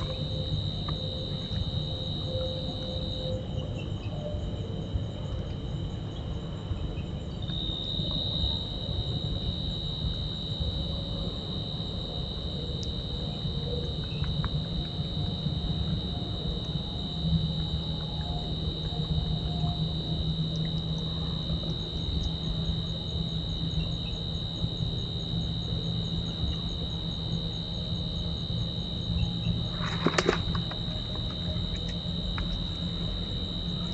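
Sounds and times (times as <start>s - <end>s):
low hum: 0.0s - 33.9s
night insects droning: 0.0s - 33.9s.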